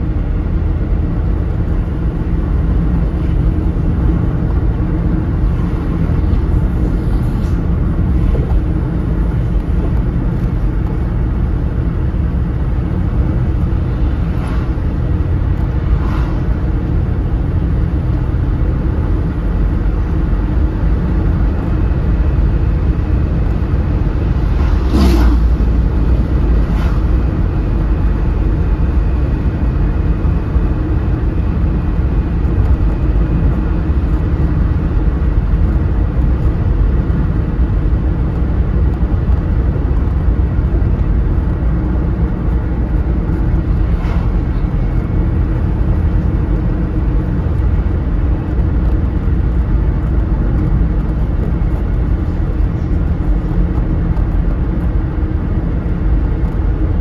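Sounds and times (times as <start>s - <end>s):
car road noise: 0.0s - 57.0s.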